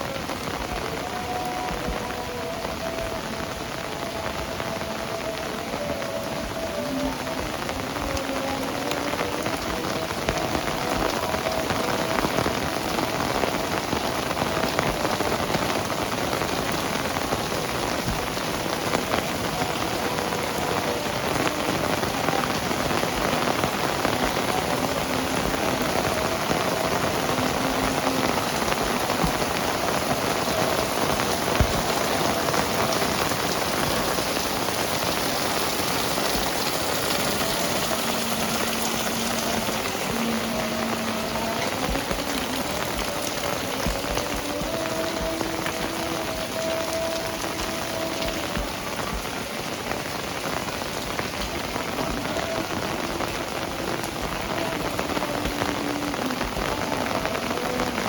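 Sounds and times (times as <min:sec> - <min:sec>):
heavy rain on hard surfaces: 0:00.0 - 0:58.0.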